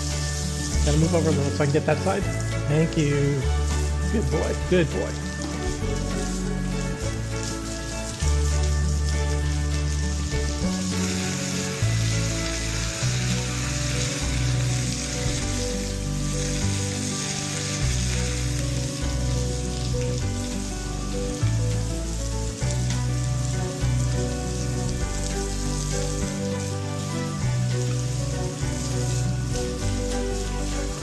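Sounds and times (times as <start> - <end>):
background music with bass: 0.0 - 31.0
hose spraying water: 0.0 - 31.0.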